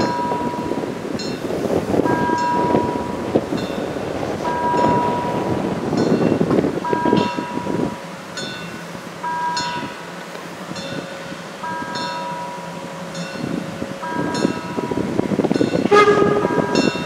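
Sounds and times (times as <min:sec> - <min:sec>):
level-crossing warning bell ringing: 0:00.0 - 0:17.0
steam train rumble: 0:00.0 - 0:17.0
wind buffeting microphone: 0:00.0 - 0:17.0.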